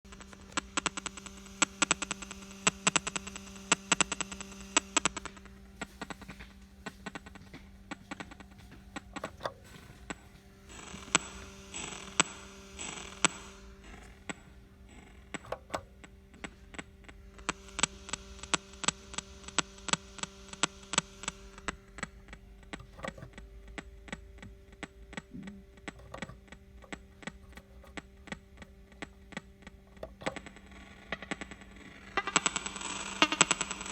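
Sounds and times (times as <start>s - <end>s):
crackling clicks and pops: 0.0s - 33.9s
steady electrical hum: 0.0s - 33.9s.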